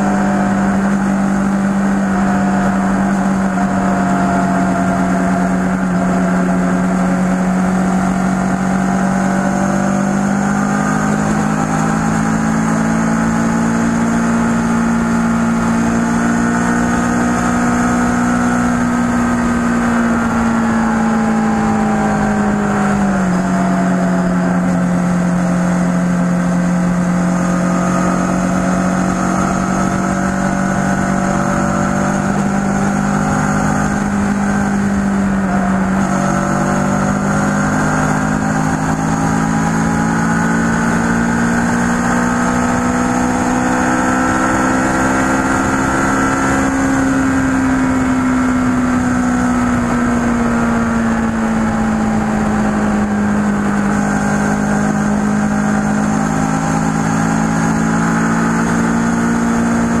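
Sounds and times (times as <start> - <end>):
motorcycle engine cruising: 0.0 - 60.0.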